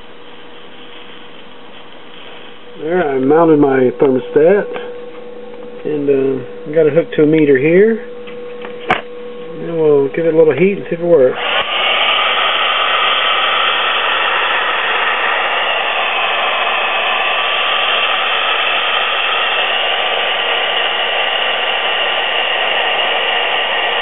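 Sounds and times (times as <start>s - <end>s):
hot-air blower rushing with whine: 0.0s - 24.0s.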